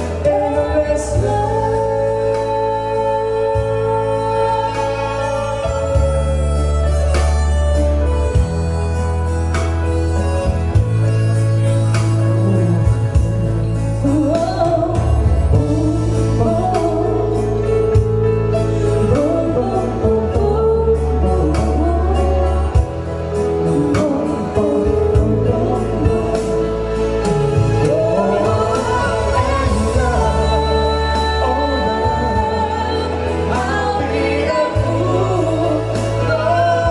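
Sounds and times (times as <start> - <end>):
person singing slow ballad: 0.0 - 36.9
steady bass: 0.0 - 36.9
sustained keyboard chords: 0.0 - 36.9.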